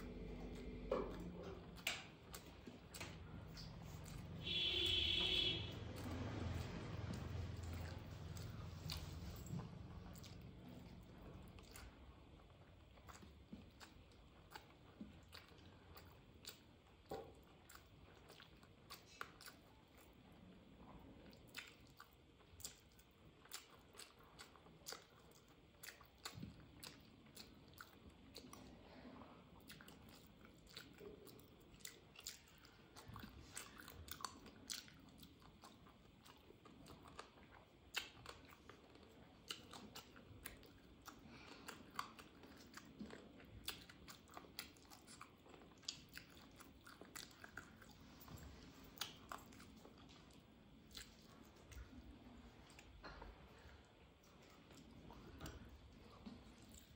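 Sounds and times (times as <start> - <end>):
chewing and lip-smacking: 0.0 - 56.9.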